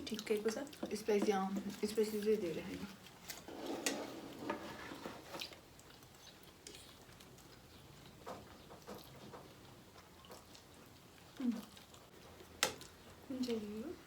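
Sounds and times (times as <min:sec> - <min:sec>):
quiet chewing: 0:00.0 - 0:14.0.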